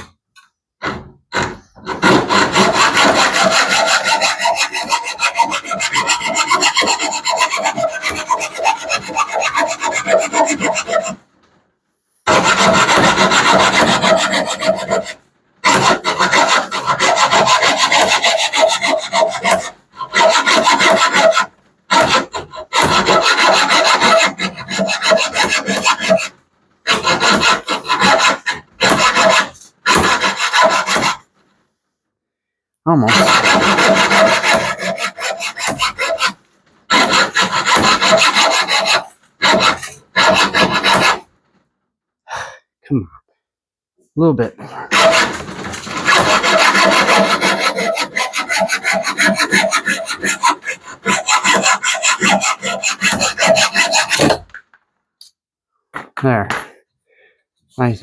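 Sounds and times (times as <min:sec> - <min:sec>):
hacksaw cutting: 0:00.8 - 0:11.3, 0:12.2 - 0:31.4, 0:33.0 - 0:41.3, 0:44.9 - 0:54.6.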